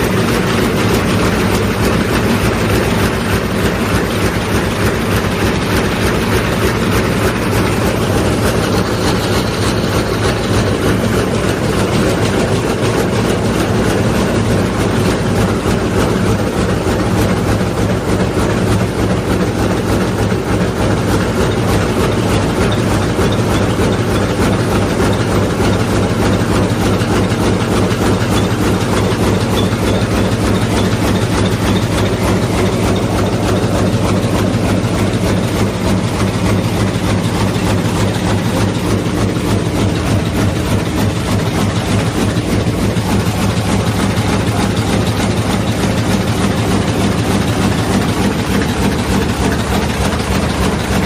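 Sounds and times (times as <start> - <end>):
loud mechanical rumble: 0.0 - 51.0.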